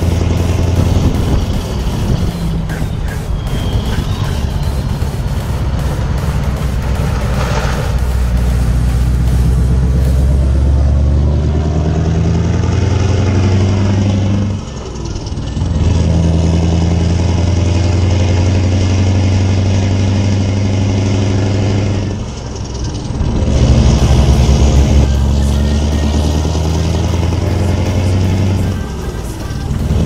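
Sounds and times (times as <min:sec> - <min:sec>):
road and wind noise: 0:00.0 - 0:30.0
truck diesel engine under load: 0:00.0 - 0:30.0.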